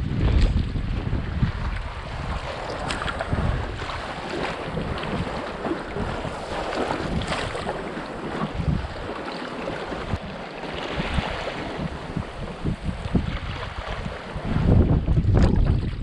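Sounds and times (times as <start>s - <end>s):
waves splashing around canoe: 0.0s - 16.0s
wind gusting over microphone: 0.0s - 16.0s.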